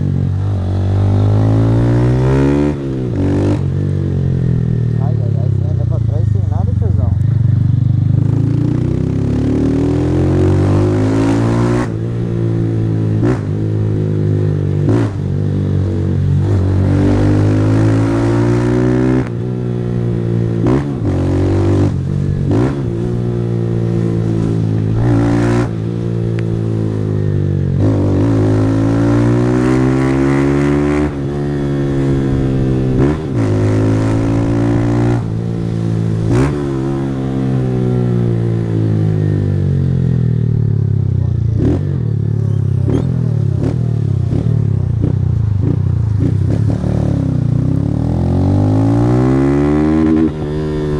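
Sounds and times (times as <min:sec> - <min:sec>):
motorcycle accelerating through gears: 0:00.0 - 0:50.9.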